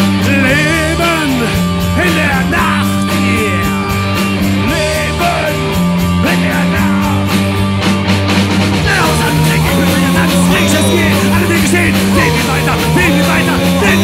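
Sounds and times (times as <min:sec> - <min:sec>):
punk rock band playing live: 0:00.0 - 0:14.0.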